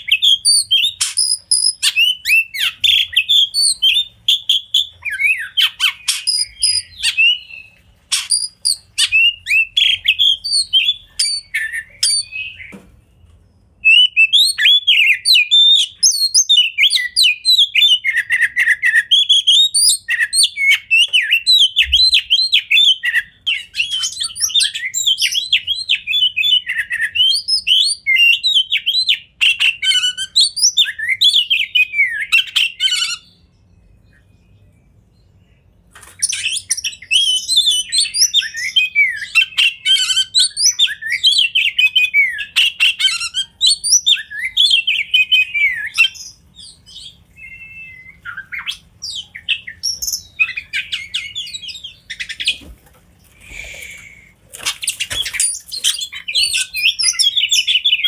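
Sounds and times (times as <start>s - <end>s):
bird singing whistled notes and clicks: 0.0s - 33.2s, 35.9s - 52.7s, 54.6s - 58.0s.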